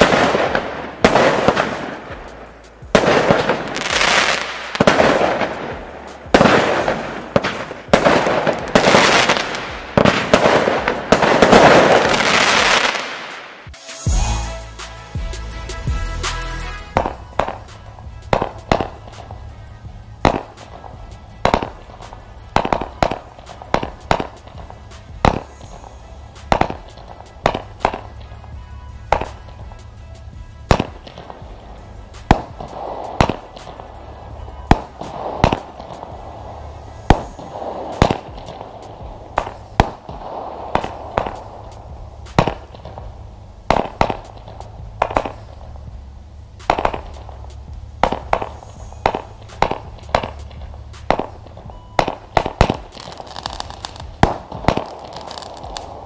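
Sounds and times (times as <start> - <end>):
crackle of burning fireworks: 0.0 - 14.2, 16.3 - 56.0
firework battery bangs: 0.0 - 14.6, 15.8 - 56.0.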